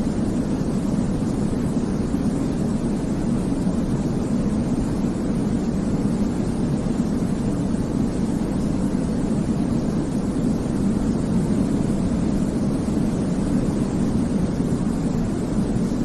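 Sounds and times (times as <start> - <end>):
deep rumbling hiss: 0.0 - 16.0.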